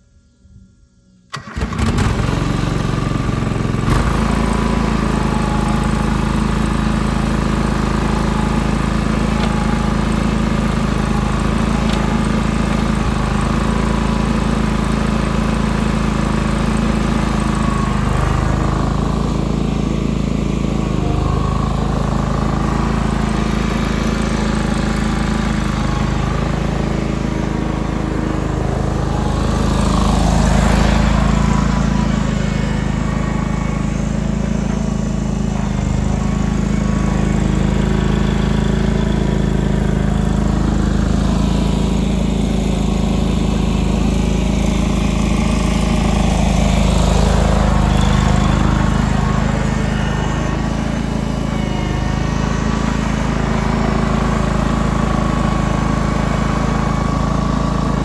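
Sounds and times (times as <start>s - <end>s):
garden tractor engine running: 0.6s - 58.0s.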